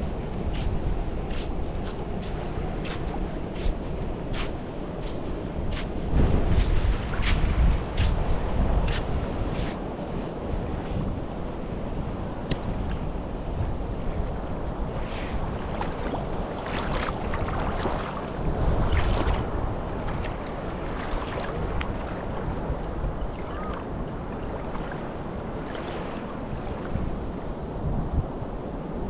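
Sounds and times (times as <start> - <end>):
small waves lapping on shore: 0.0 - 28.9
wind on microphone: 0.0 - 29.0.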